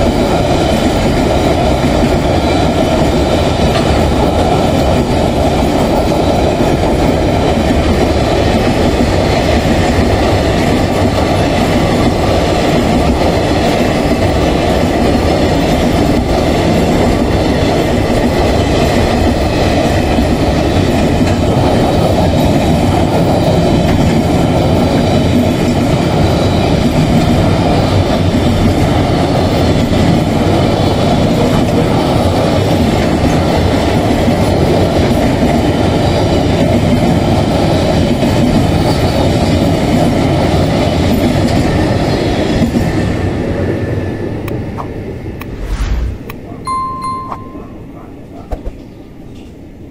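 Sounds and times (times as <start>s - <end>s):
train wheels rumbling on rails: 0.0s - 46.6s.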